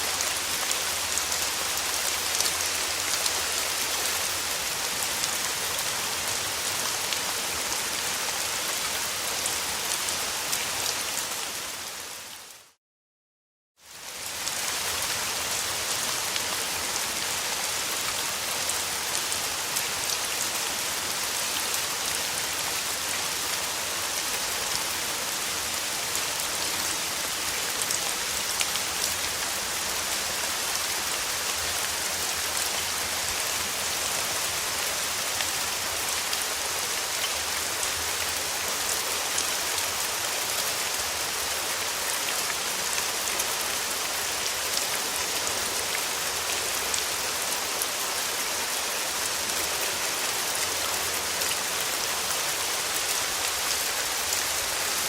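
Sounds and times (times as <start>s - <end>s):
rain pattering on a surface: 0.0s - 11.5s, 13.9s - 55.0s.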